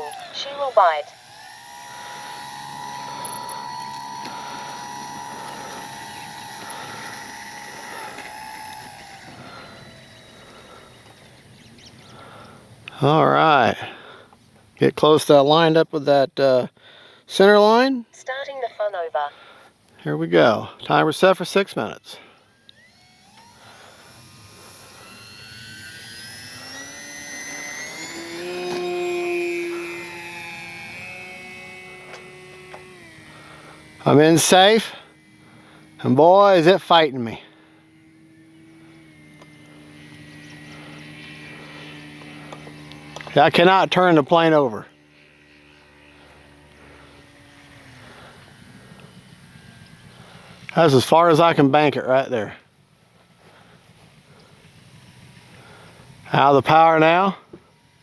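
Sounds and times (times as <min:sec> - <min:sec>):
electric motor and propeller whine: 0:00.0 - 0:15.8, 0:19.2 - 0:58.0.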